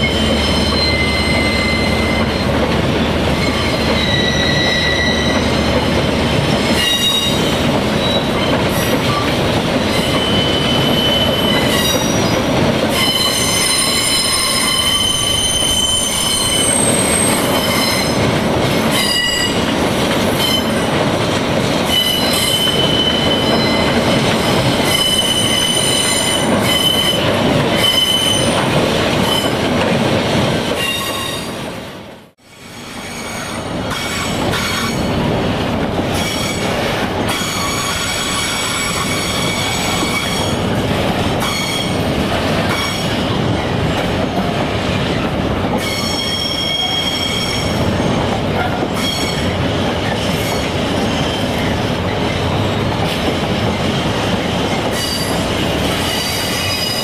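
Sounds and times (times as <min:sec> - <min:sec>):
wheels squealing on rails: 0:00.0 - 0:21.0, 0:21.8 - 0:29.7, 0:30.7 - 0:31.6, 0:32.4 - 0:35.3, 0:36.1 - 0:57.0
train rolling past: 0:00.0 - 0:57.0.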